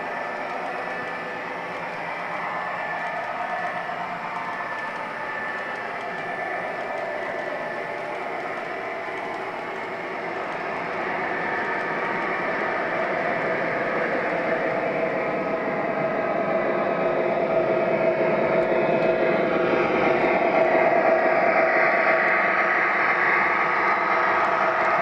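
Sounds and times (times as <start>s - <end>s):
model train rumble and whine: 0.0s - 25.0s.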